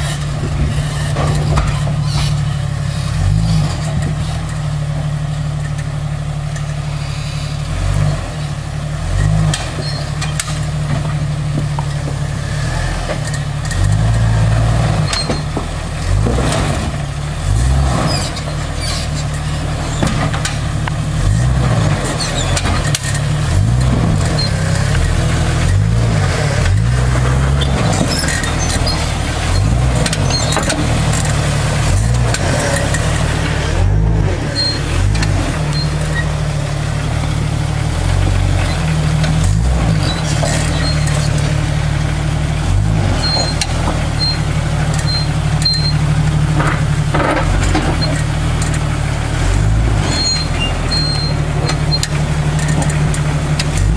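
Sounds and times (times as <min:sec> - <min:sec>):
knocks and scrapes: 0:00.0 - 0:04.9, 0:09.2 - 0:53.9
engine revving: 0:00.0 - 0:53.9.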